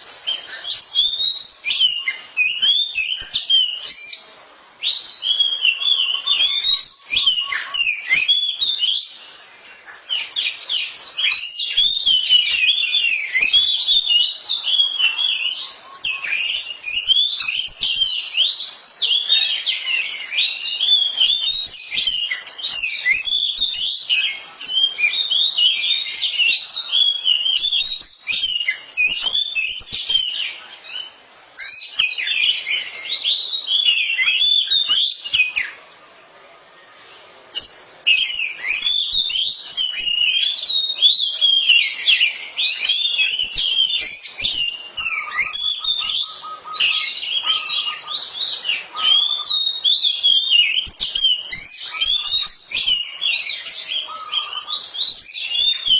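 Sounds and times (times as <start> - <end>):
birds singing high whistles and chirps: 0.0 - 55.9.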